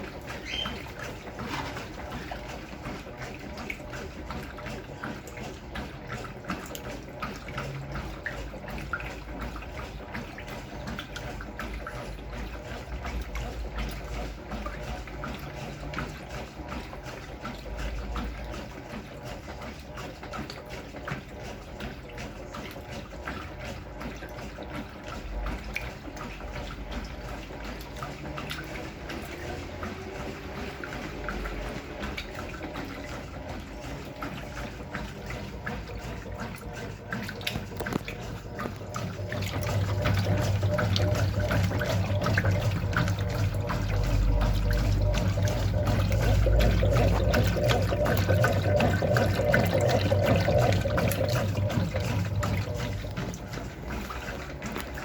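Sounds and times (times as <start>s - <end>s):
washing machine water splashing: 0.0s - 55.0s.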